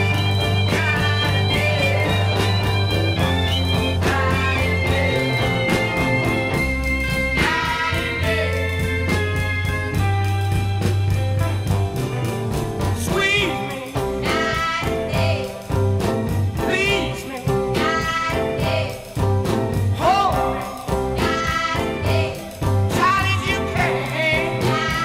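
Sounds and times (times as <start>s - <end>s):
bass line and drums: 0.0s - 25.0s
rhythm and blues singing: 0.0s - 25.0s.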